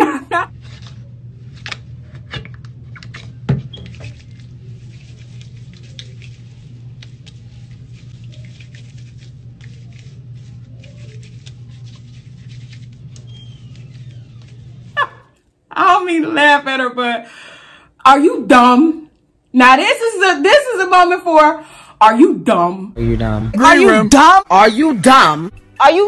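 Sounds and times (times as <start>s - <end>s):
steady low hum: 0.0s - 19.6s, 21.3s - 26.0s.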